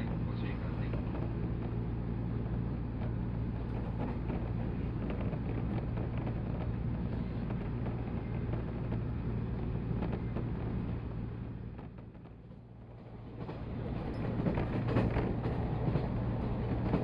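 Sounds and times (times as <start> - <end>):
electric train hum: 0.0 - 17.0
wheels rumbling on rail: 0.0 - 17.0.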